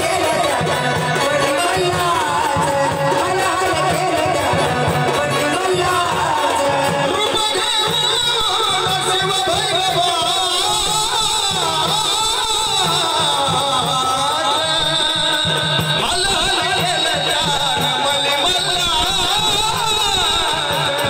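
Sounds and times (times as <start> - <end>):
instrumental accompaniment: 0.0 - 21.0
person singing: 0.0 - 21.0
steady drum beat: 0.0 - 21.0.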